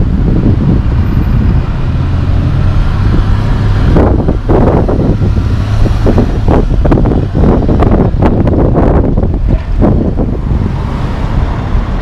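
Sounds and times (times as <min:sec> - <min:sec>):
diesel truck engine droning: 0:00.0 - 0:12.0
road traffic: 0:00.0 - 0:12.0
wind buffeting microphone: 0:00.0 - 0:12.0.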